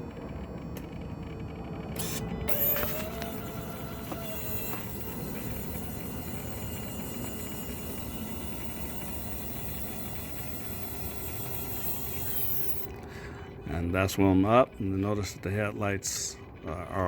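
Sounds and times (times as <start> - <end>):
landing gear motor hum: 0.0 - 17.0.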